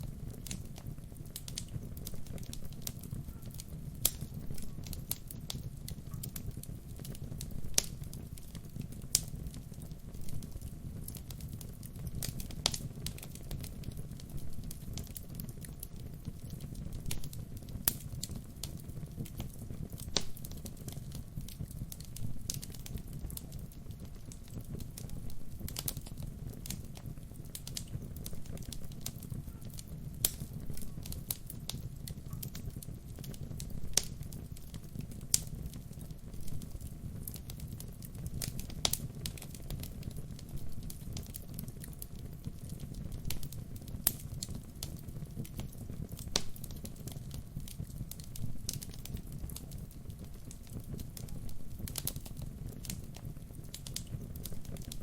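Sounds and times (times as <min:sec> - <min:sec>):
burning wood crackling and popping: 0:00.0 - 0:55.0
wood fire rumbling: 0:00.0 - 0:55.0.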